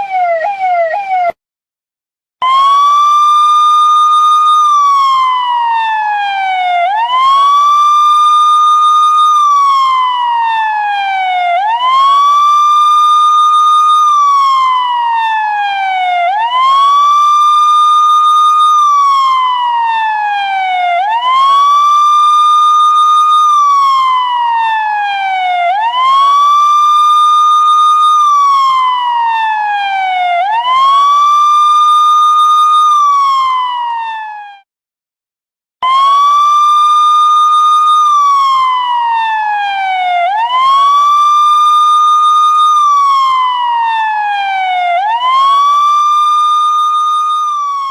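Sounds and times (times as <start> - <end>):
police car siren wailing: 0.0 - 1.4, 2.4 - 34.7, 35.8 - 47.9.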